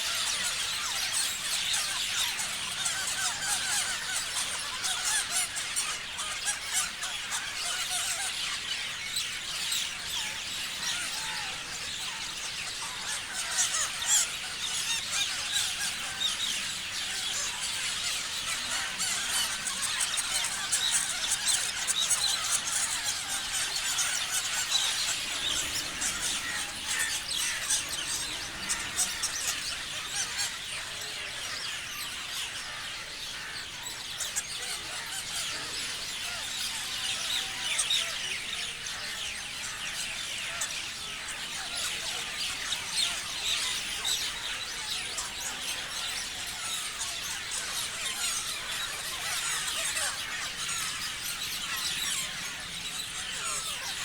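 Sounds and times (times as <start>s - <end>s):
flock of parrots chirping: 0.0s - 54.0s.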